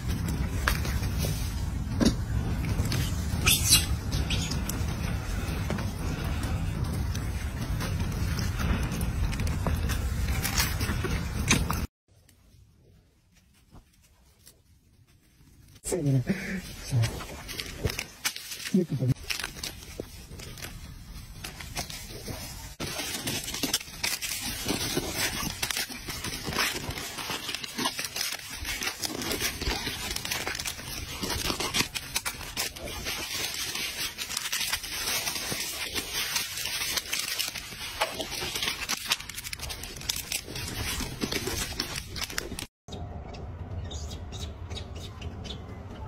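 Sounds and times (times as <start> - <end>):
plastic wrappers crinkling and tearing: 0.0 - 11.9, 13.8 - 42.7.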